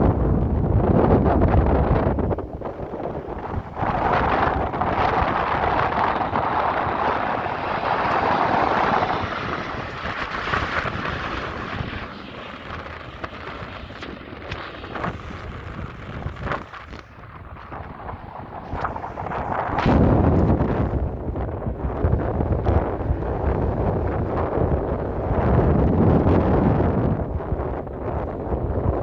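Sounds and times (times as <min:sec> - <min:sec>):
jet roar: 0:00.0 - 0:28.0
wind buffeting microphone: 0:00.0 - 0:29.0.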